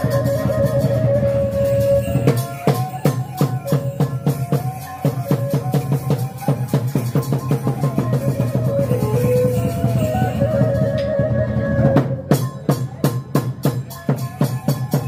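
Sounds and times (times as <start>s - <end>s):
drums beating fast rhythm: 0.0s - 15.0s.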